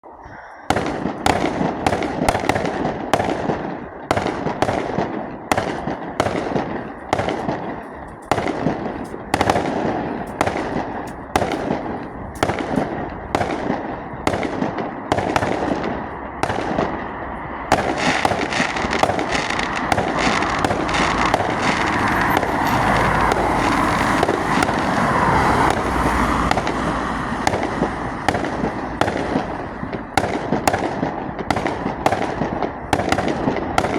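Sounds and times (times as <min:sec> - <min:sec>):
fireworks bangs and crackling: 0:00.7 - 0:33.9.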